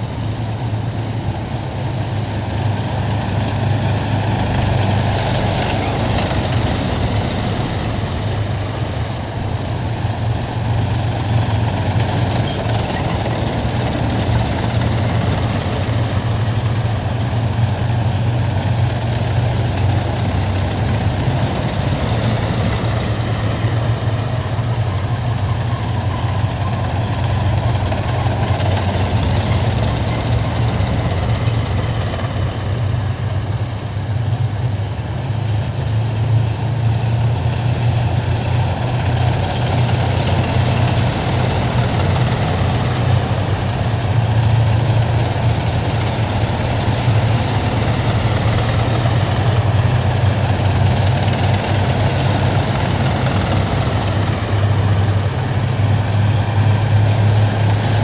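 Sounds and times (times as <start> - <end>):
heavy vehicle engines rumbling: 0.0 - 58.0.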